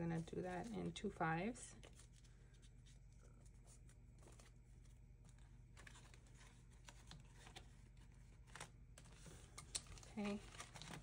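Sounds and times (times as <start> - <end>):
paper banknotes crinkling: 0.0 - 11.0.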